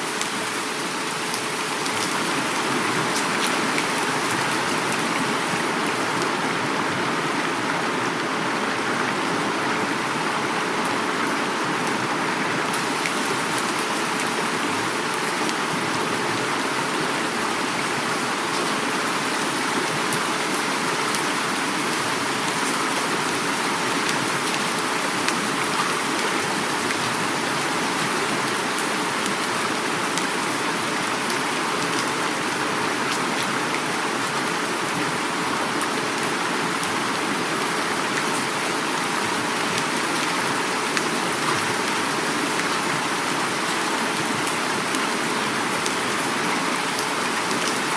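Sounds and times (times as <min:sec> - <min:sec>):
heavy rain falling: 0:00.0 - 0:47.9
river flowing: 0:00.0 - 0:47.9.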